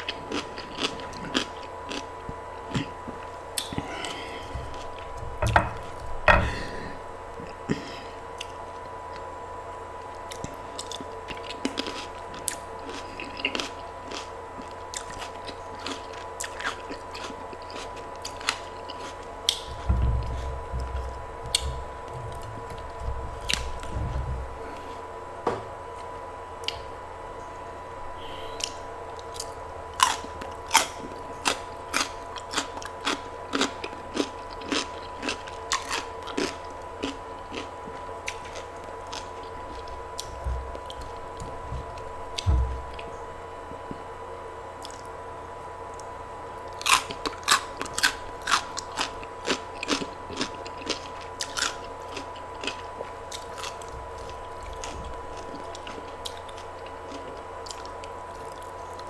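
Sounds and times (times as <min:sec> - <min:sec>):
person chewing crunchy food: 0:00.0 - 0:09.3, 0:10.3 - 0:25.2, 0:28.2 - 0:44.0, 0:46.7 - 0:59.0
faint steady hum: 0:00.0 - 0:59.0.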